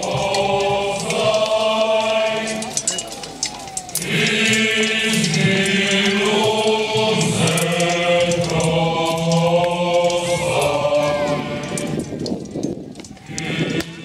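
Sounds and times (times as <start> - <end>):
choir singing slow chords: 0.0 - 2.9, 3.7 - 12.2, 13.2 - 14.0.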